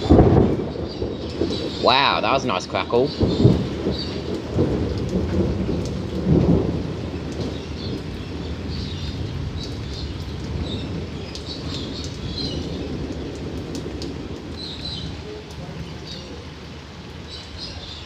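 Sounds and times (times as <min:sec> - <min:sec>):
steady rain hissing: 0:00.0 - 0:18.0
thunder rumbling: 0:00.0 - 0:18.0.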